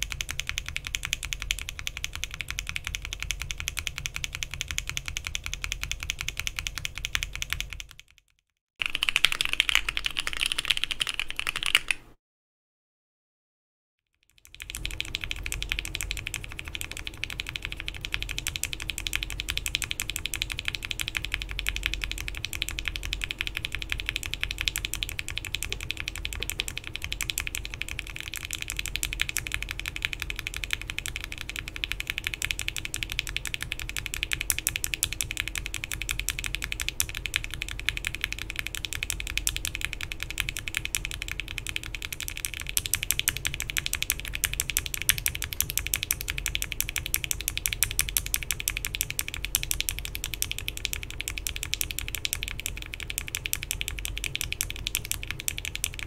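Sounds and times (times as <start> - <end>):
fast mechanical keyboard typing: 0.0 - 12.2, 14.2 - 56.0.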